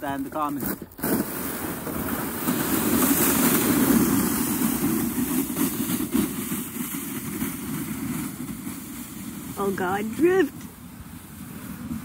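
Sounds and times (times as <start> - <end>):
sled scraping over snow: 0.0 - 12.0.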